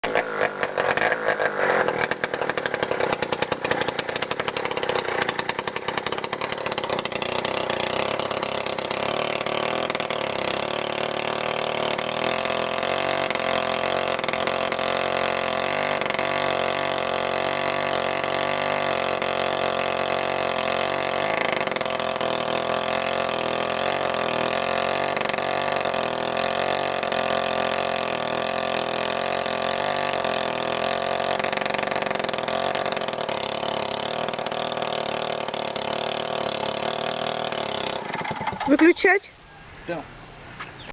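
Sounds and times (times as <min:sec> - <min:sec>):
chainsaw engine running: 0:00.0 - 0:39.2.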